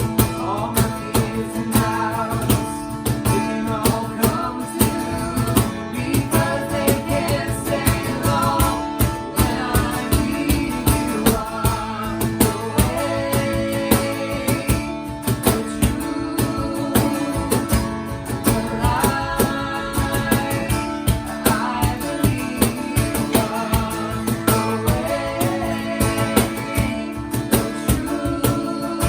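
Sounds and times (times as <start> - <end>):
guitar: 0.0 - 29.0
person singing: 0.0 - 29.0
steady beat: 2.6 - 28.8.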